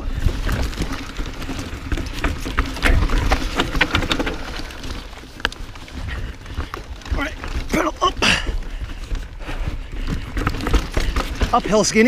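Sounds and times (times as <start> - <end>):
bike rattling over roots: 0.0 - 12.0
bike tyre rumble on dirt: 0.0 - 12.0.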